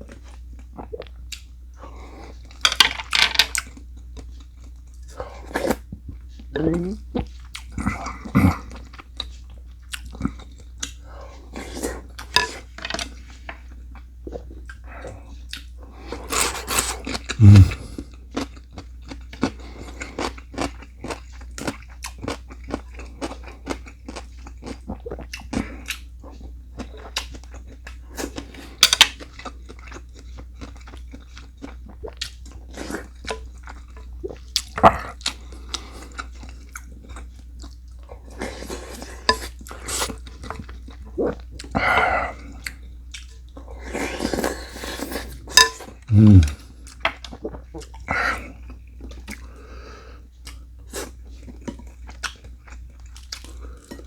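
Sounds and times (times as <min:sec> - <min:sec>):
person chewing and crunching food: 0:00.0 - 0:54.0.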